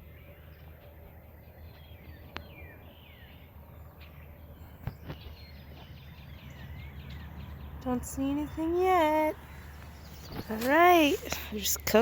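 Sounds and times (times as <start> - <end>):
songbirds chirping: 0.0 - 12.0
steady low rumble: 0.0 - 12.0.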